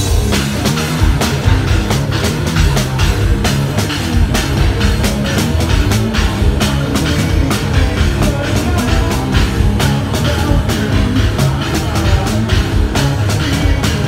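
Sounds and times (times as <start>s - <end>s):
driving drums and cymbals: 0.0s - 14.0s
metal band playing live: 0.0s - 14.0s.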